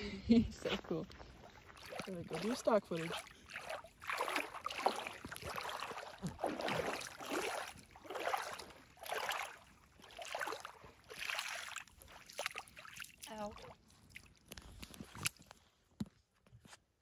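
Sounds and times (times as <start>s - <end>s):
feet splashing in shallow water: 0.0s - 15.5s.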